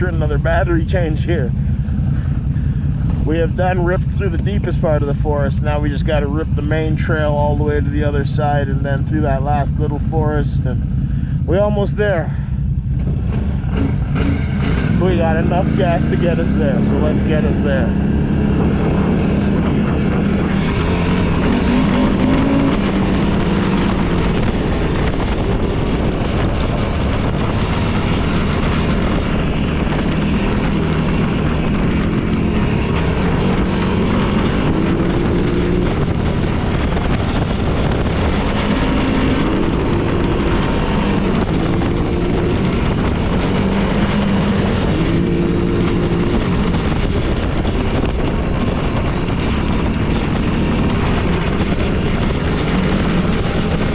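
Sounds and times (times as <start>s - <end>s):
off-road vehicle engine revving: 0.0s - 53.9s
wind and trail noise: 0.0s - 53.9s.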